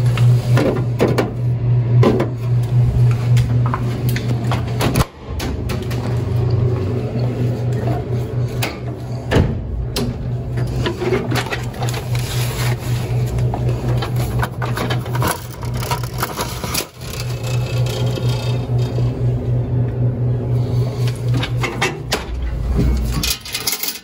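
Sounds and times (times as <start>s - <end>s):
vending machine humming: 0.0s - 24.0s.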